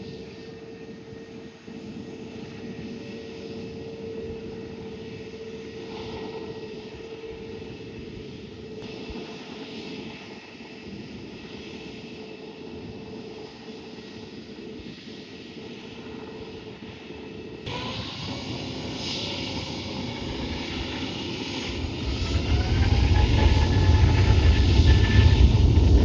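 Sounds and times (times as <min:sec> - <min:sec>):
jet engines droning: 0:00.0 - 0:26.0.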